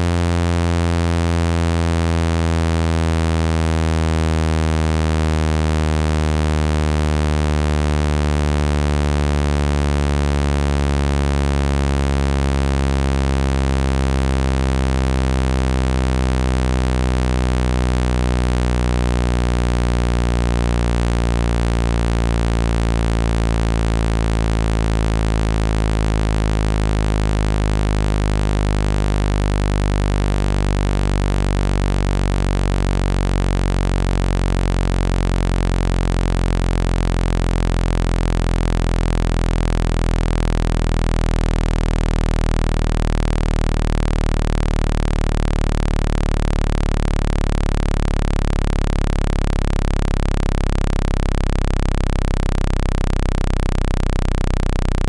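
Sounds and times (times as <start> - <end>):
low electronic hum: 0.0 - 55.0.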